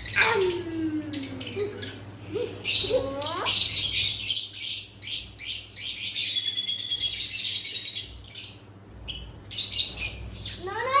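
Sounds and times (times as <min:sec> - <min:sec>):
small birds chirping and squawking: 0:00.0 - 0:11.0.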